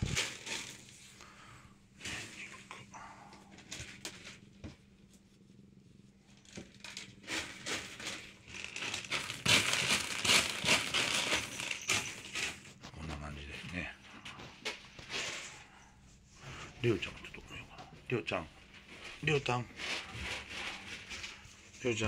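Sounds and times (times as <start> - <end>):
rustling and crinkling: 0.0 - 22.0.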